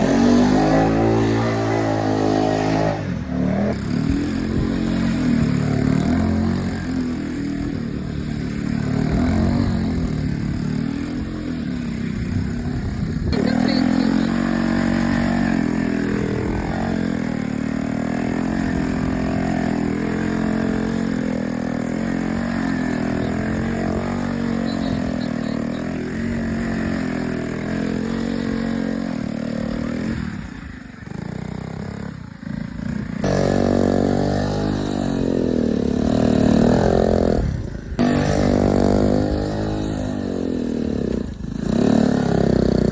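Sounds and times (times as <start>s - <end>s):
three-wheeler engine revving: 0.0s - 42.9s.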